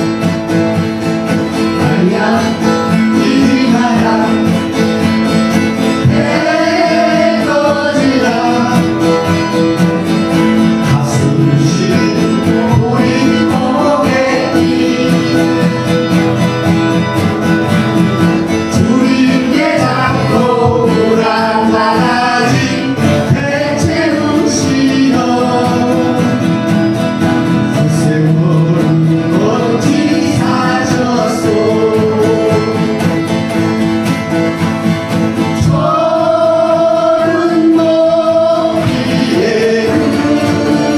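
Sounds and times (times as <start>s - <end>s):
acoustic guitars strumming: 0.0s - 40.9s.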